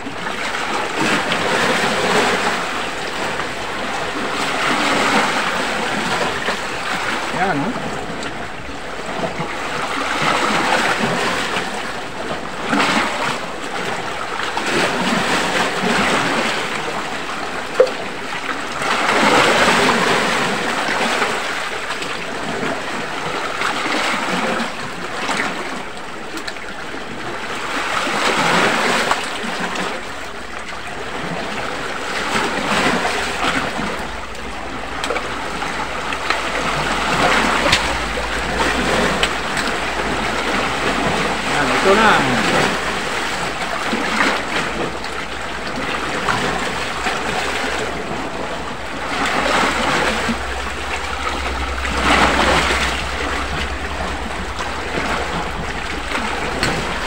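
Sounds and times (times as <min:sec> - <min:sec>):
waves washing against rocks: 0:00.0 - 0:57.0.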